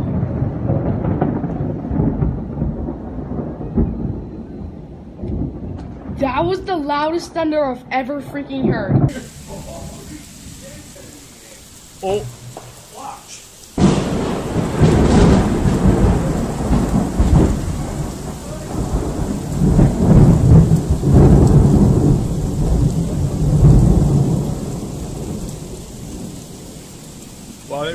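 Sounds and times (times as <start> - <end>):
rain falling: 0.0 - 27.9
thunder crack and rumbling: 0.0 - 27.9.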